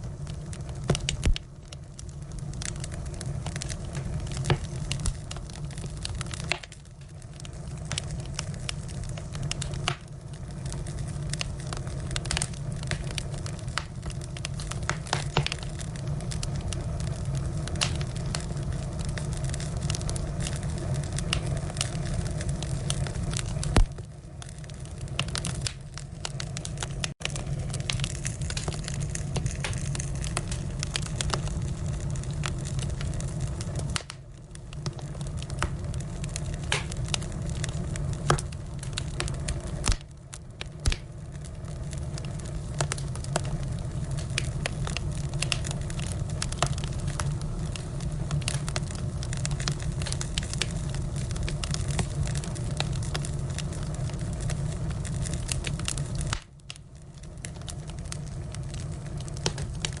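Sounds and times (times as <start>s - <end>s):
firewood crackling: 0.0s - 60.0s
low rush of flame: 0.0s - 60.0s
sharp pops of burning wood: 0.2s - 60.0s.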